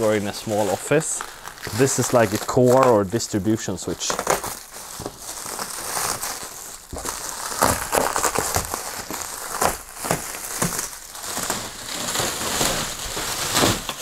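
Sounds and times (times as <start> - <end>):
plastic crinkling: 0.0 - 14.0
plastic stretch wrap tearing: 0.0 - 14.0.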